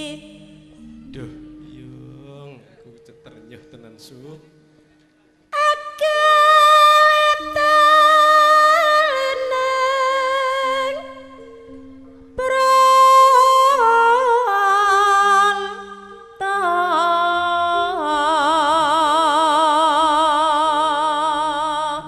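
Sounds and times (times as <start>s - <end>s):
woman singing with vibrato: 0.0s - 1.8s, 5.6s - 22.0s
gamelan accompaniment: 0.0s - 6.3s, 7.1s - 19.4s.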